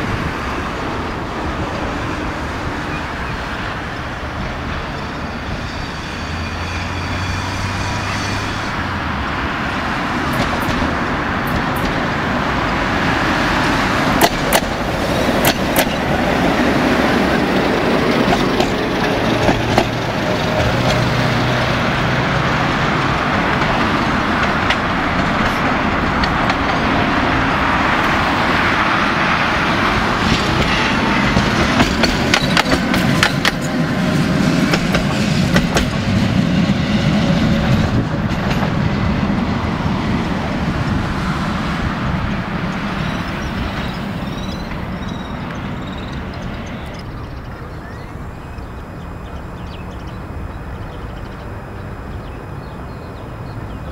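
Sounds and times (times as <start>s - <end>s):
road traffic noise: 0.0s - 53.9s
trams running on track: 0.0s - 53.9s
wheels clicking and clanking on rails: 0.0s - 53.9s.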